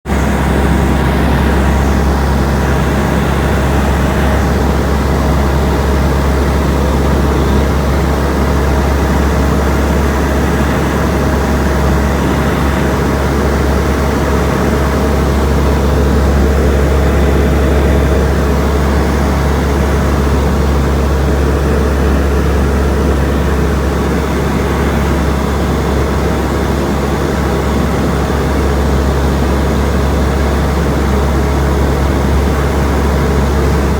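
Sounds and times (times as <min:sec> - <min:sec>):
loud low rumble: 0:00.0 - 0:30.2.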